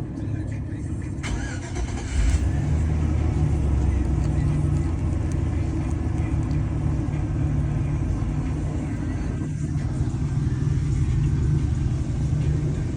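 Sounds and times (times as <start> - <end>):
van engine idling: 0.0 - 12.9.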